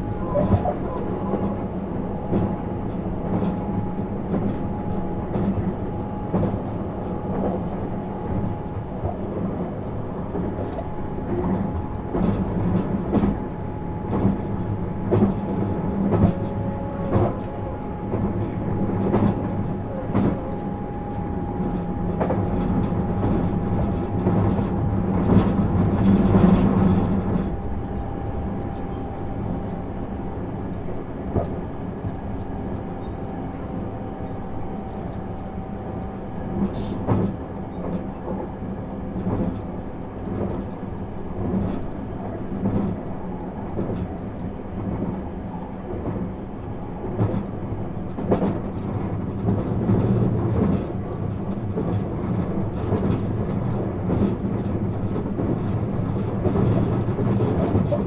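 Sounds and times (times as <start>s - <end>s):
train rumble inside carriage: 0.0s - 58.0s.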